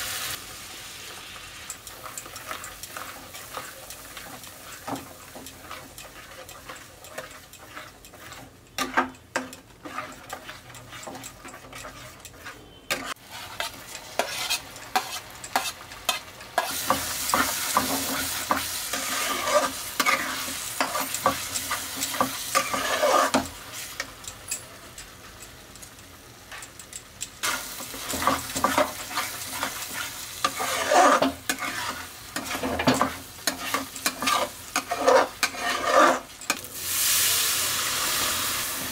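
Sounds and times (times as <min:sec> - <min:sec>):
paste sizzling in hot oil: 0:00.0 - 0:24.2, 0:27.4 - 0:38.9
metal spatula scraping a pan: 0:01.8 - 0:24.1, 0:27.4 - 0:37.2.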